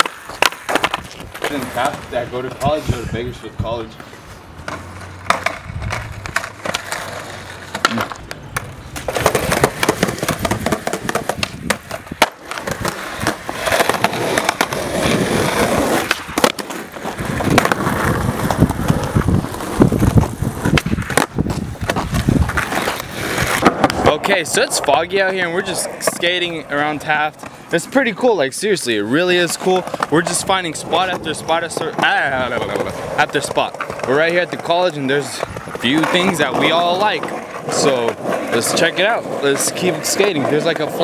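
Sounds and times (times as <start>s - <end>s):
skateboard clicks and knocks: 0.0s - 2.8s, 3.9s - 41.0s
skateboard wheels rolling on asphalt: 0.0s - 41.0s.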